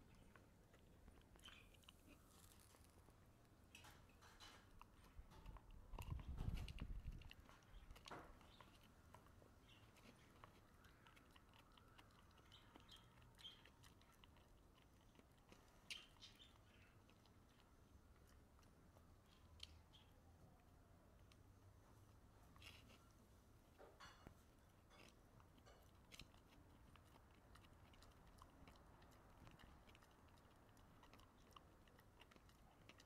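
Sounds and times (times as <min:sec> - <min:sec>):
dog gnawing a bone: 0:00.0 - 0:20.0, 0:22.4 - 0:33.0.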